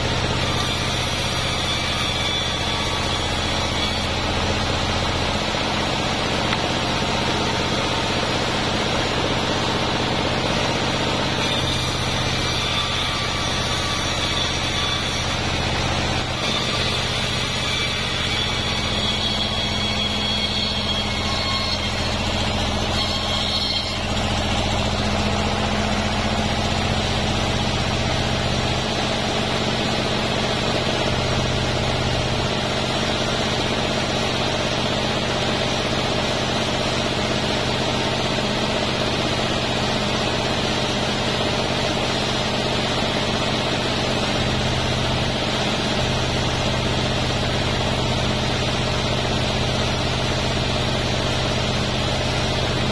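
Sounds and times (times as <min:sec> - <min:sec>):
bandsaw cutting wood: 0:00.0 - 0:52.9.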